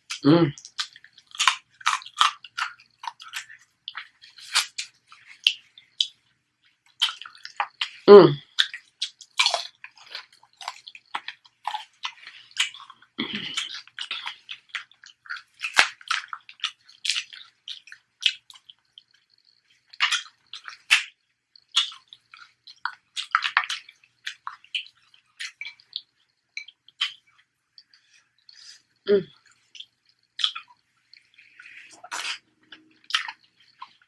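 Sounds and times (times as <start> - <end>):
wet chewing and lip smacks: 0.0 - 34.0.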